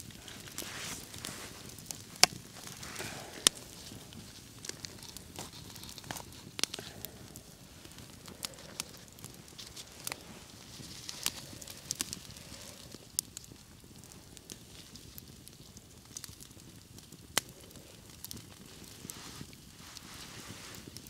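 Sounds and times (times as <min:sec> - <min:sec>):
campfire crackling: 0:00.0 - 0:21.0
sharp pops of fire: 0:00.0 - 0:21.0.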